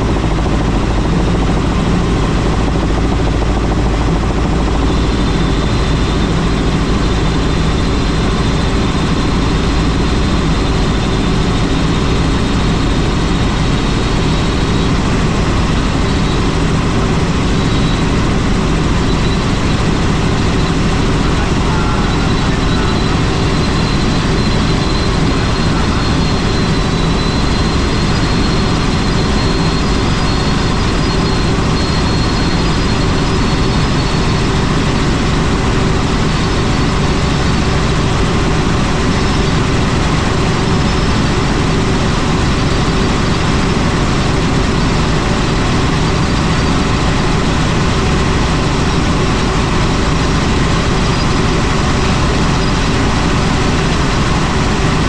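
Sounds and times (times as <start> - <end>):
helicopter engine and rotor: 0.0 - 55.0
high turbine whine: 0.0 - 55.0.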